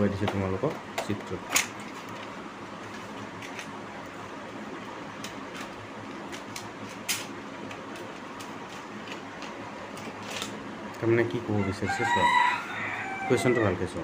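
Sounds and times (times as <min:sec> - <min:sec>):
room hum and hiss: 0:00.0 - 0:14.0.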